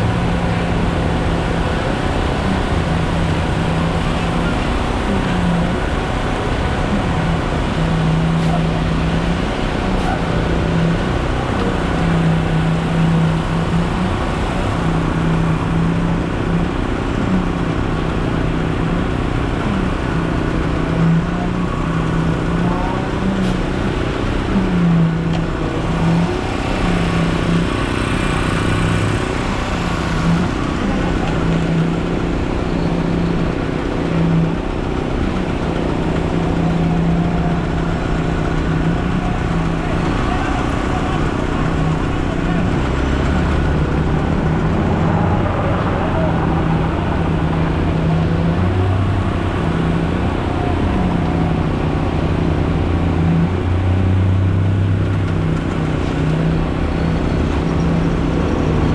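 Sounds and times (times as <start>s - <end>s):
truck diesel engine running: 0.0s - 58.9s.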